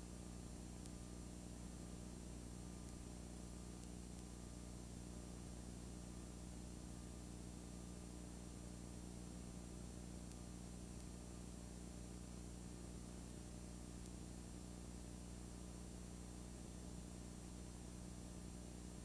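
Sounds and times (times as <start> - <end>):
faint tape hiss: 0.0 - 19.0
low electrical hum: 0.0 - 19.0.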